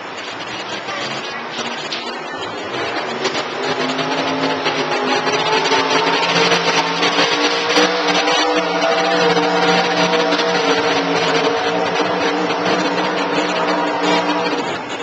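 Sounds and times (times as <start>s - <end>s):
machine drone: 0.0s - 15.0s.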